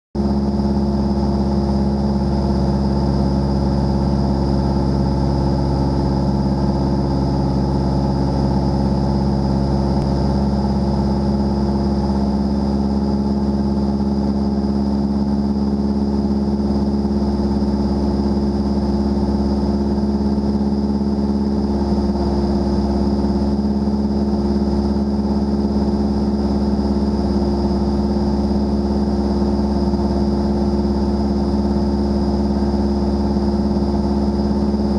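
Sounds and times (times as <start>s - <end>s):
light airplane engine drone: 0.2s - 34.9s.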